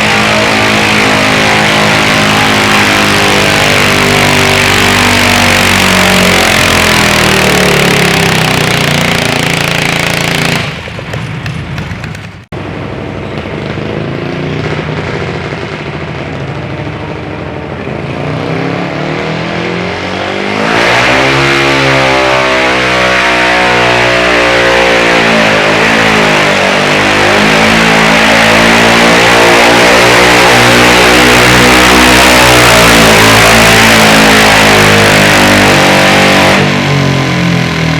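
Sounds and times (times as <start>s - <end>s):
tractor engine revving: 0.0s - 37.9s.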